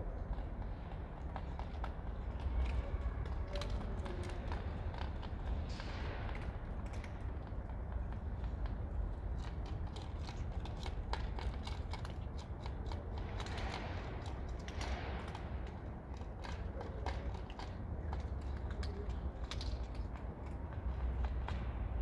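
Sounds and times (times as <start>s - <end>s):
cats eating clicks: 0.1s - 21.8s.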